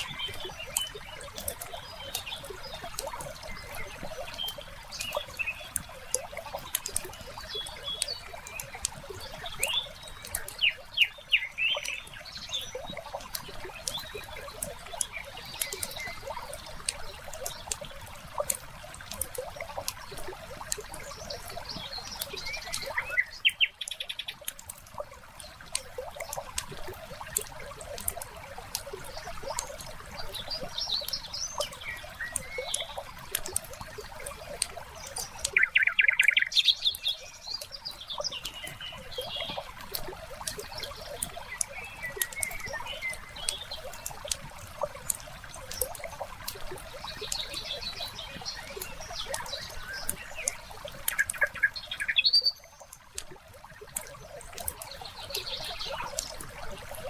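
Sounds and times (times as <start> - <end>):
birds chirping: 0.0 - 53.0, 53.6 - 57.0.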